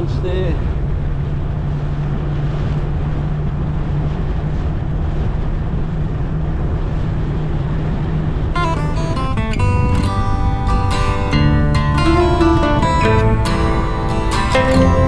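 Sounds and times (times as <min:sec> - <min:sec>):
road and wind noise: 0:00.0 - 0:15.0
vehicle engine drone: 0:00.0 - 0:15.0.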